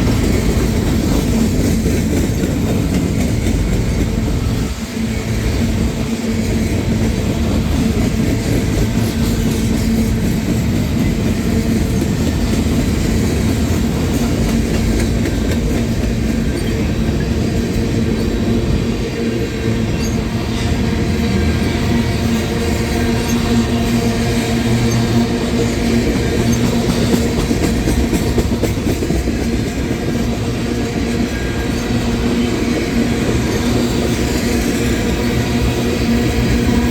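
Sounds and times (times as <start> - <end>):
train wheels clacking over rail joints: 0.0 - 36.9.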